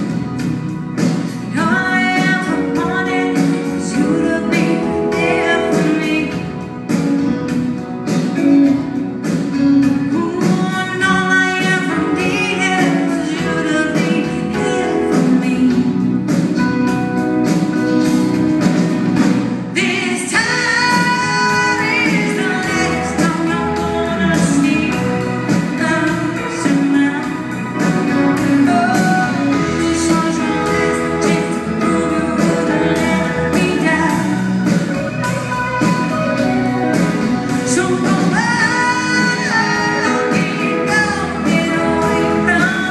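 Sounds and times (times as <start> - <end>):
live band playing: 0.0 - 42.9
woman singing: 1.1 - 7.5, 9.4 - 17.2, 19.7 - 42.9.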